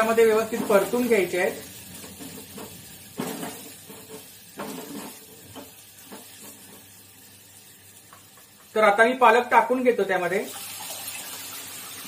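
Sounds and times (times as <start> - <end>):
masala sizzling in hot oil: 0.0 - 12.0.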